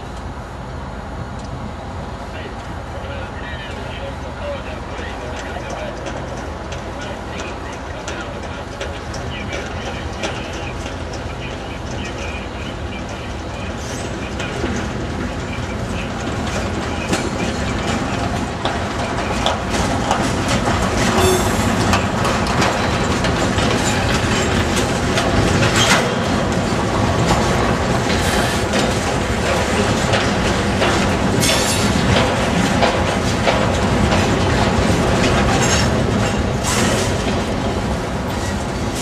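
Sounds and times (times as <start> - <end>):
train wheels rumbling on rails: 0.0 - 39.0
sharp clacks of train wheels: 4.5 - 39.0.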